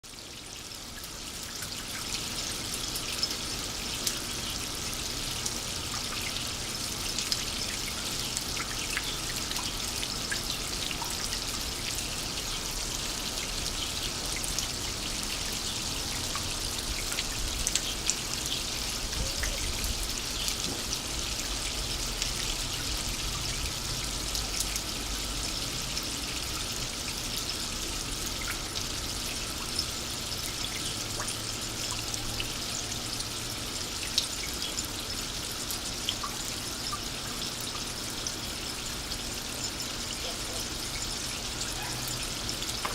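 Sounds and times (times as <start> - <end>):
water trickling down rain chain: 0.0 - 42.9
sharp drip ticks: 0.9 - 4.7, 5.4 - 27.6, 28.3 - 38.9.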